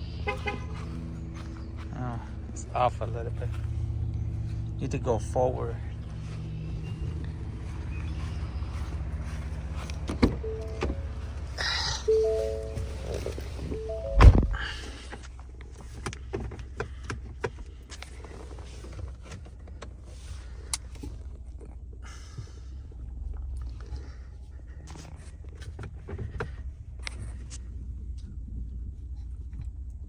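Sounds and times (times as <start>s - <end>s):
vehicle engine low rumble: 0.0s - 30.0s.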